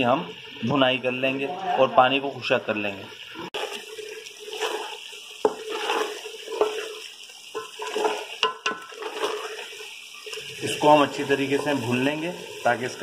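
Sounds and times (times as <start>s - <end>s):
wet sizzling and squelching: 0.0s - 13.0s.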